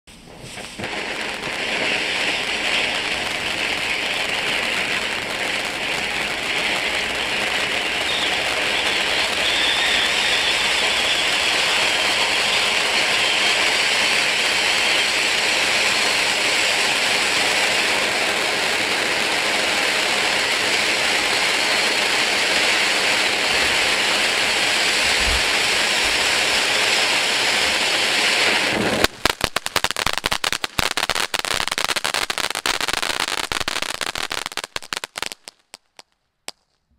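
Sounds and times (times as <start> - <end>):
fountain firework hissing: 0.1 - 31.7
firework crackling pops: 0.1 - 36.9.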